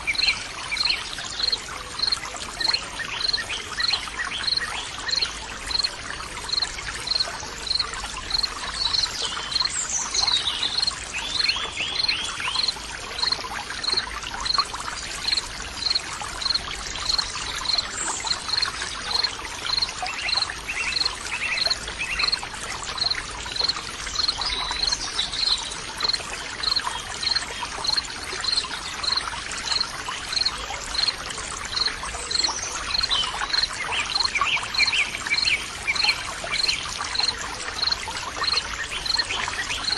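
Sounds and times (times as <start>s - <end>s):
water trickling and pouring: 0.0s - 39.9s.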